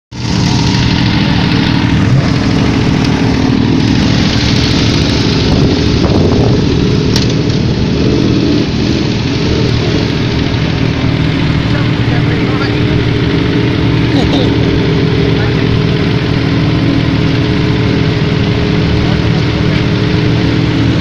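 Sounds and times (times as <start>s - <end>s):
car and motorcycle engines idling: 0.1s - 21.0s.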